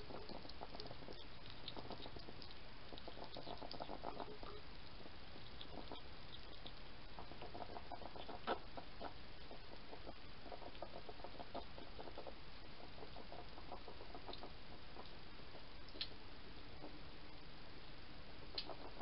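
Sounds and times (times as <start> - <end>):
hedgehog chewing dry food: 0.0 - 16.1.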